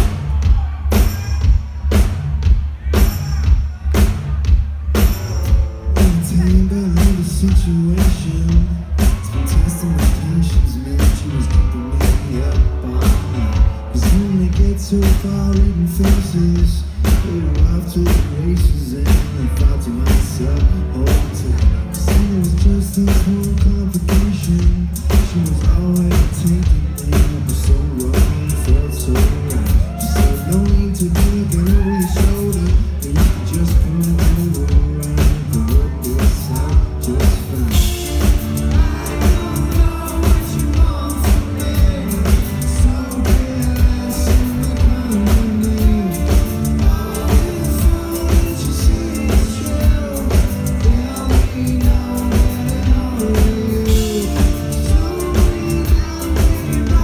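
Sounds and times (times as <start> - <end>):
deep bass line: 0.0 - 57.0
person singing: 5.9 - 57.0.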